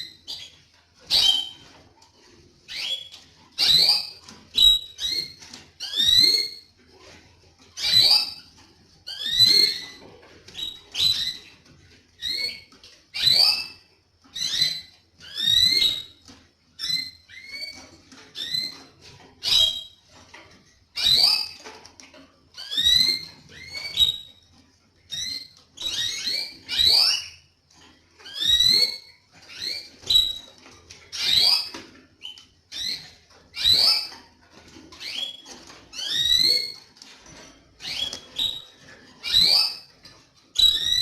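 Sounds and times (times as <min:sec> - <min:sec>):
canary chirping: 0:00.0 - 0:41.0.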